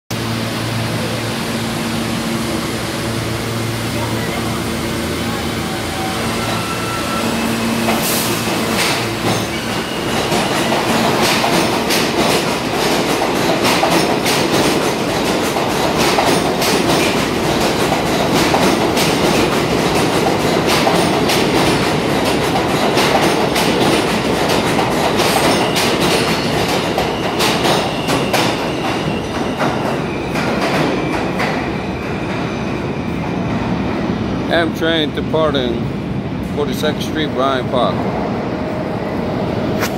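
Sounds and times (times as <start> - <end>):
train wheels rumbling on rail: 0.2 - 39.9.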